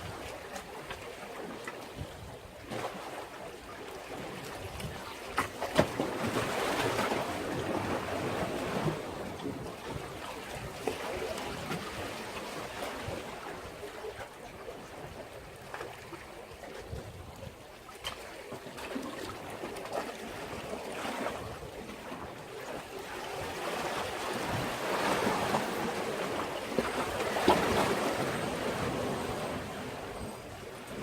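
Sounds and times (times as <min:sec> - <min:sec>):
sea waves washing against breakwater: 0:00.0 - 0:31.0.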